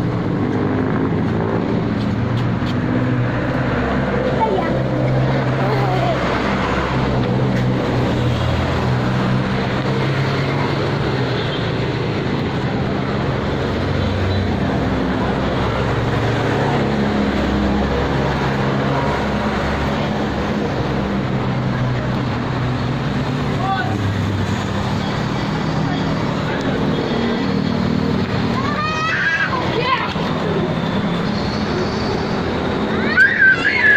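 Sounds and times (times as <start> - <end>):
city traffic rush: 0.0 - 33.9
low hum of engines: 0.0 - 33.9.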